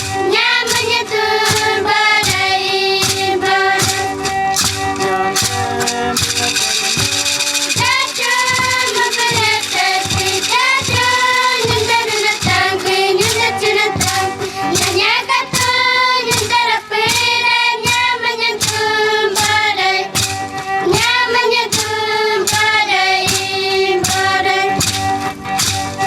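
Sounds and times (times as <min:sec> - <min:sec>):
group singing with children: 0:00.0 - 0:25.6
steady percussion beat: 0:00.0 - 0:26.0.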